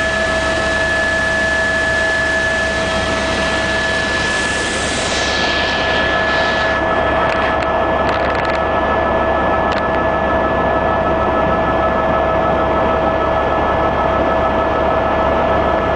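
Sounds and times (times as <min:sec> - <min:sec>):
helicopter cabin whine: 0:00.0 - 0:15.9.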